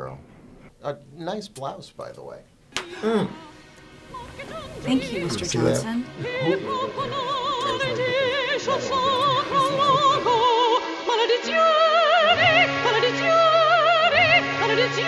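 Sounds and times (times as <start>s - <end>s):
operatic singing with vibrato: 2.8s - 15.0s.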